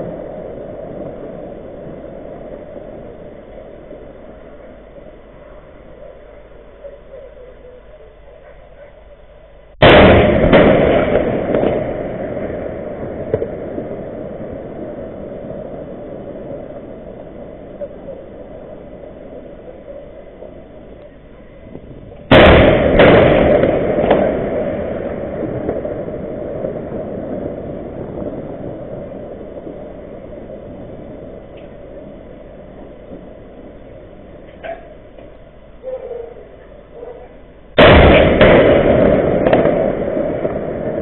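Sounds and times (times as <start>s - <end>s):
explosion blasts rumbling: 0.0s - 4.8s, 9.8s - 34.6s, 37.7s - 41.0s.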